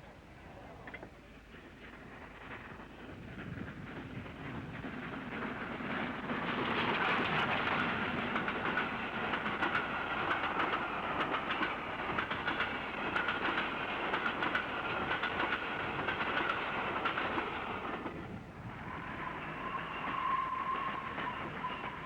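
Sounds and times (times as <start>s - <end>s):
steam train running: 1.3s - 22.0s.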